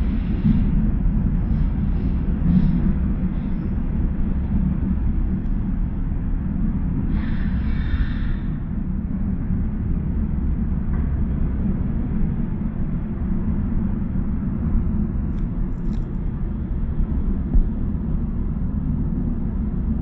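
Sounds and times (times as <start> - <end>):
train rumble from inside carriage: 0.0 - 20.0.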